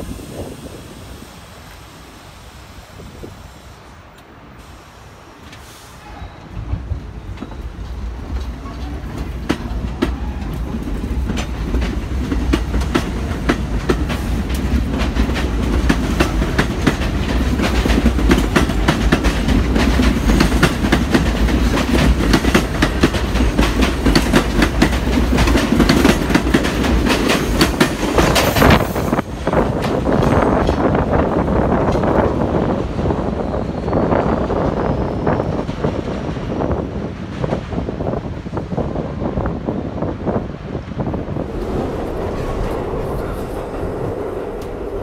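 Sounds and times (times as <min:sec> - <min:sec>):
subway train running past: 0:00.0 - 0:45.0.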